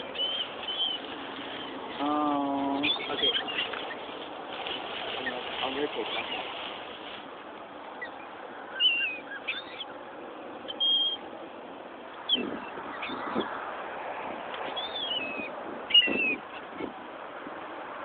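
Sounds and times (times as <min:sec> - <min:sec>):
birds begging calls: 0:00.0 - 0:11.4, 0:12.0 - 0:13.8, 0:14.4 - 0:17.0
steady background hiss: 0:00.0 - 0:15.9.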